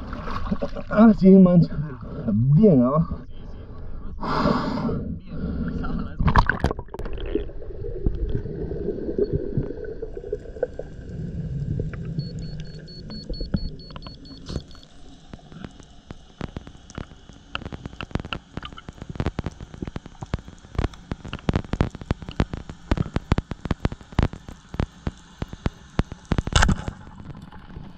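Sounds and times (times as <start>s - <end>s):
sharp underwater clicks and crackles: 0.0s - 1.1s, 6.2s - 27.9s
underwater rush of water: 0.0s - 1.1s, 6.2s - 27.9s.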